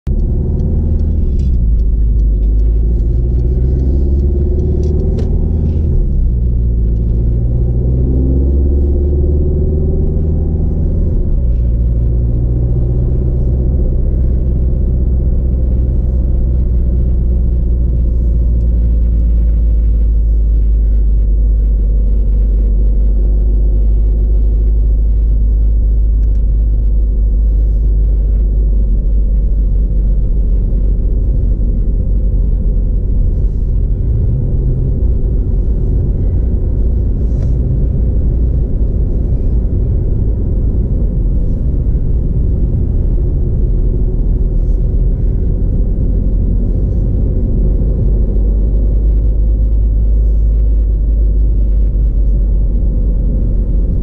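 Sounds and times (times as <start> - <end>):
car engine from inside cabin: 0.1 - 54.0.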